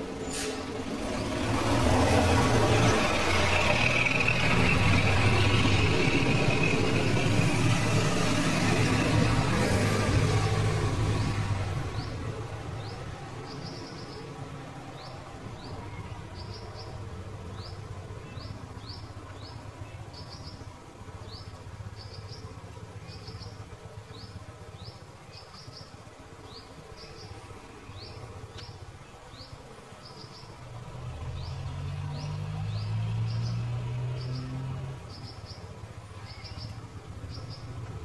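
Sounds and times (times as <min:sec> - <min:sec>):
vehicle engines idling: 0:00.0 - 0:38.0.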